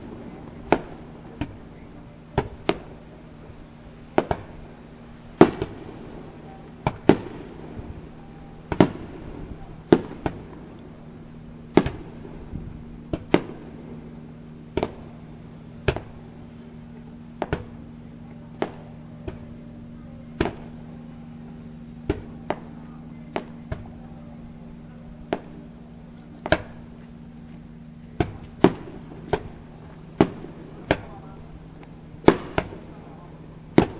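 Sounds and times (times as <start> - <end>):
distant firework bangs: 0.0 - 33.9
steady low hum: 0.0 - 33.9.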